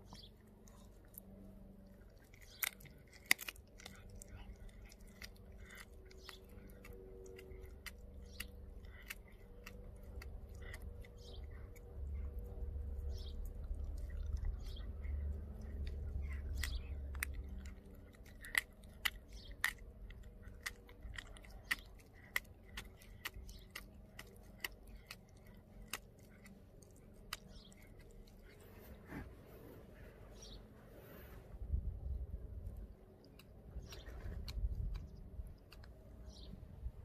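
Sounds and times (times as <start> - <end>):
dog chewing with crunches: 0.0 - 29.4, 32.5 - 36.5.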